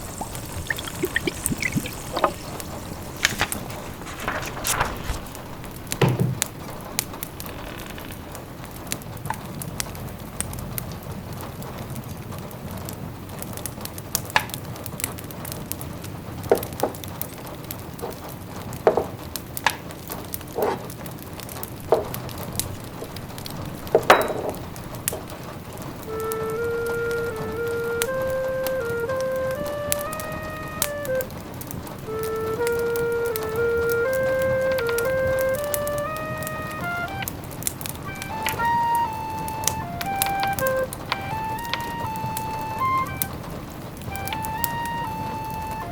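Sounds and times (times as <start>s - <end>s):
rain pattering: 0.0s - 45.9s
wood fire crackling: 0.0s - 45.9s.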